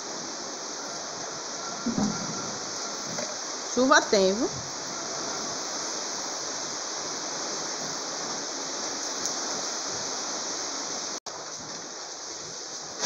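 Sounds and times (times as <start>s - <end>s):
steady rain pouring: 0.0s - 13.0s.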